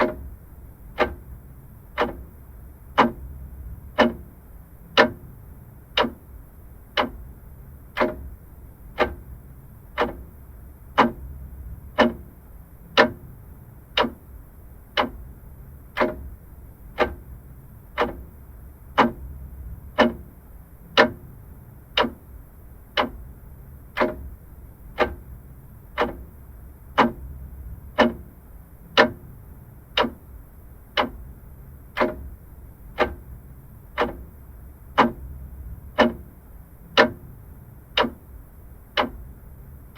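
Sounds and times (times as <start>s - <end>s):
faint low hum: 0.0s - 39.9s
mechanical clock ticking: 0.0s - 39.9s.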